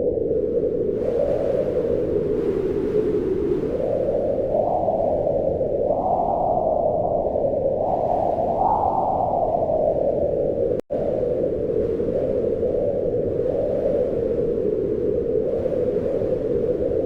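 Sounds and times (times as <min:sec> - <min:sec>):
wind blowing in gusts: 0:00.0 - 0:17.0.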